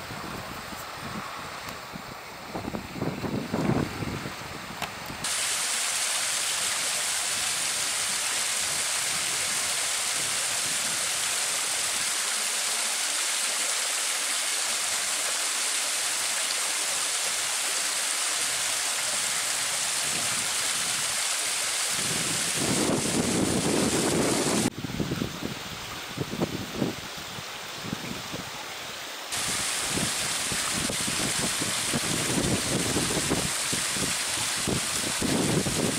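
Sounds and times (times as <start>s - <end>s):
rushing water hiss: 0.0s - 35.9s.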